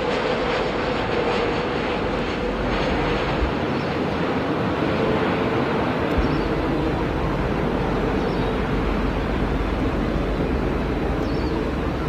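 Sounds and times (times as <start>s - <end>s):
jet engines roaring: 0.0s - 12.0s
faint hum: 0.2s - 12.0s.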